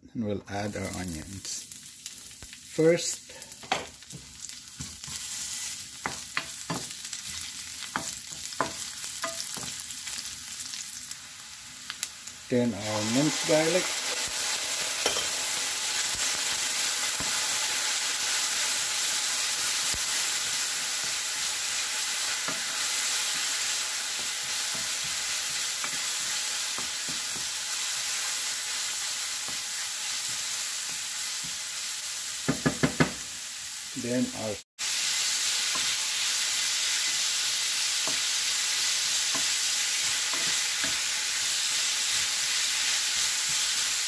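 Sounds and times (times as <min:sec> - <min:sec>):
onions sizzling in hot oil: 0:00.7 - 0:44.0.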